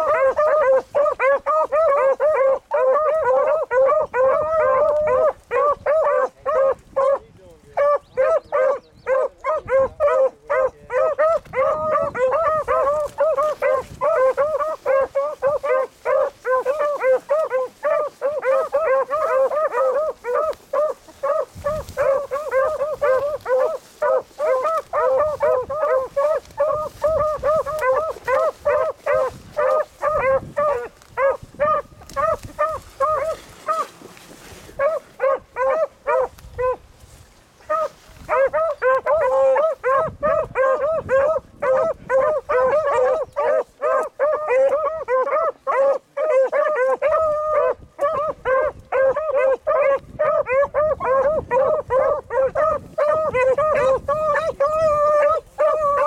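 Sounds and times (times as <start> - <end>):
beagles baying: 0.0 - 7.2, 7.8 - 34.0, 34.8 - 36.8, 37.6 - 56.0.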